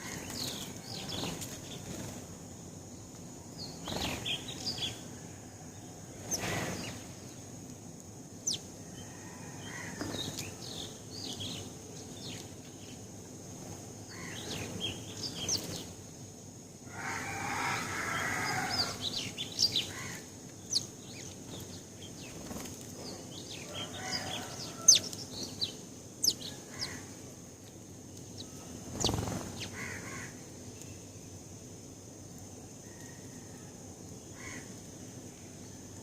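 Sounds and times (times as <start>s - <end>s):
sparrows chirping: 0.0s - 5.2s, 5.8s - 7.6s, 8.3s - 16.3s, 16.9s - 31.4s.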